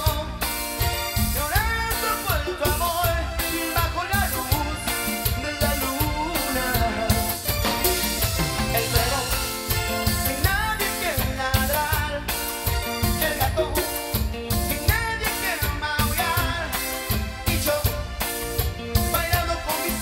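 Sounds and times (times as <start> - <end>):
drum kit: 0.0 - 20.0
electric bass: 0.0 - 20.0
man singing: 0.0 - 20.0.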